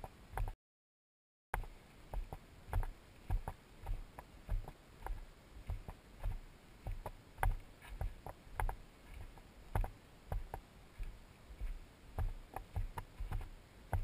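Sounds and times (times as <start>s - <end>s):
footsteps on dirt trail: 1.6s - 14.0s.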